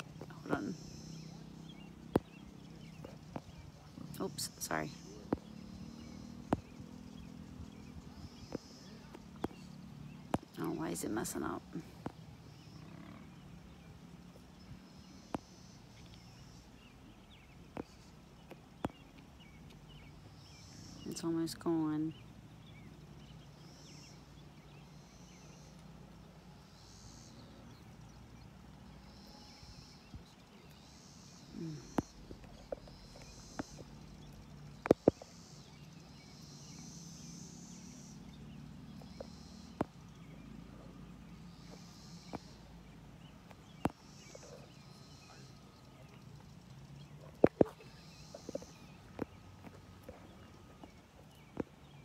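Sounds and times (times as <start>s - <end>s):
faint bird chirps: 0.0s - 52.0s.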